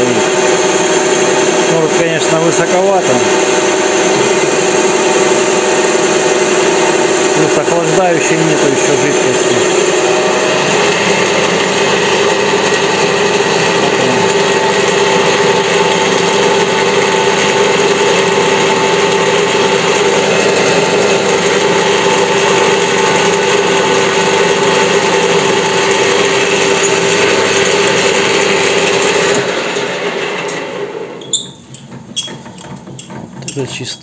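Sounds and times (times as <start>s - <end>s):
metal lathe machining whine: 0.0s - 32.3s.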